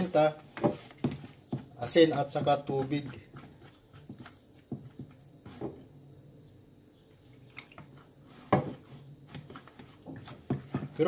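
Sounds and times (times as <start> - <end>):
fork stirring batter in bowl: 0.0 - 5.8, 7.8 - 11.0.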